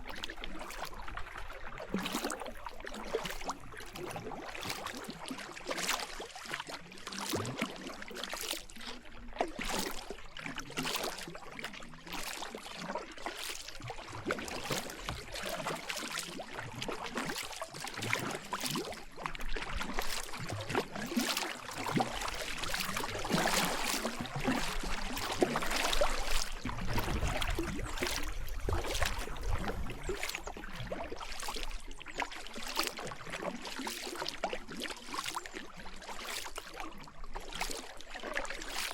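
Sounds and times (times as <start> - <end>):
kayak paddle splashing in water: 0.0 - 38.9.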